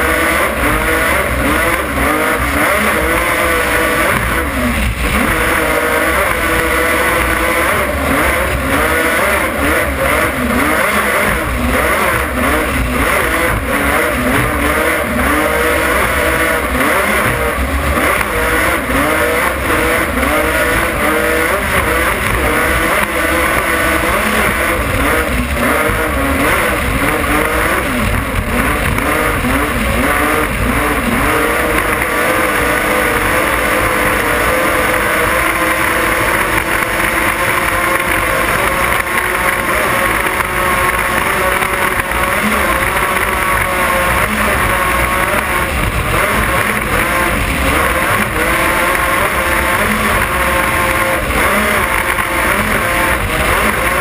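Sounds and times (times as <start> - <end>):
powerboat engines running flat out: 0.0 - 54.0.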